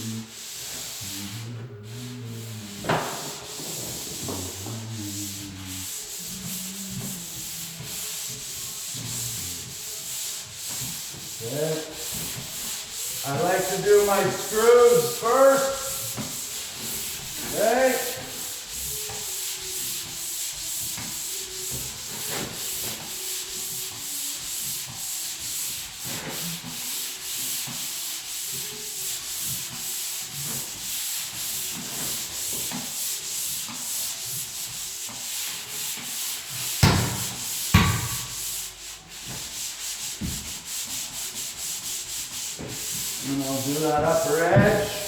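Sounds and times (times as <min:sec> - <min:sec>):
hand sanding drywall: 0:00.0 - 0:45.0.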